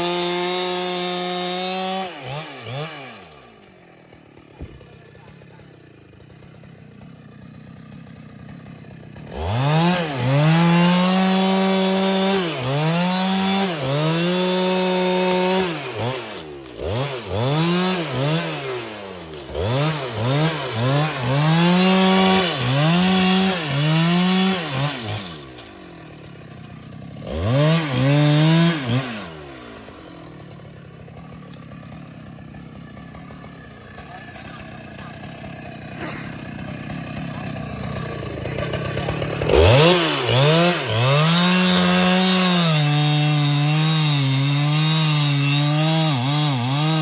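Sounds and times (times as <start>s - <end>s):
chainsaw revving: 0.0s - 47.0s.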